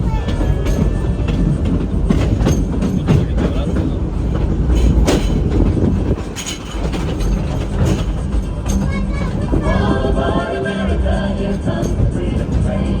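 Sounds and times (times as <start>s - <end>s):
train clanks and rattles: 0.0s - 13.0s
train rumbling on rails: 0.0s - 13.0s.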